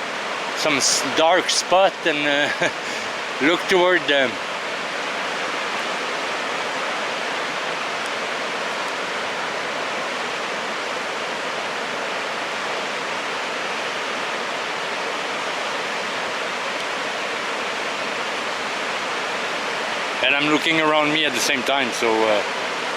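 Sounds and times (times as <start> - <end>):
creek water rushing: 0.0 - 22.9.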